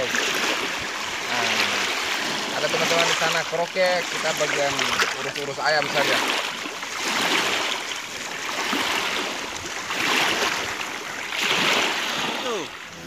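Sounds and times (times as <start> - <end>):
small waves on stony shore: 0.0 - 13.0.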